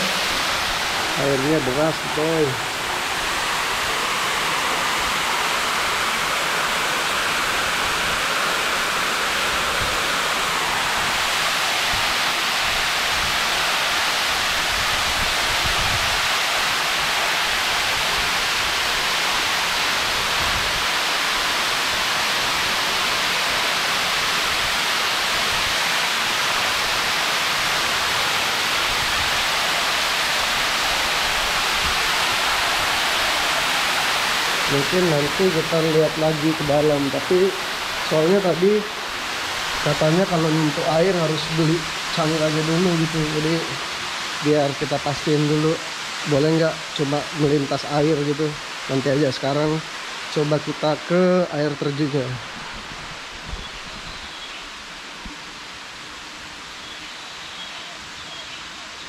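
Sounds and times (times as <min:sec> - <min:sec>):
fast-flowing water rushing: 0:00.0 - 0:59.0.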